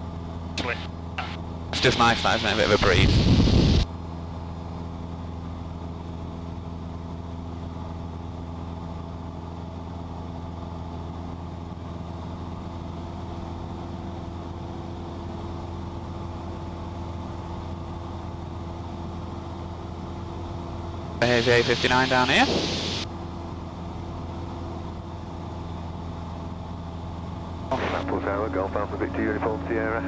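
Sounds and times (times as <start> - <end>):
propeller plane engine droning: 0.0 - 30.0.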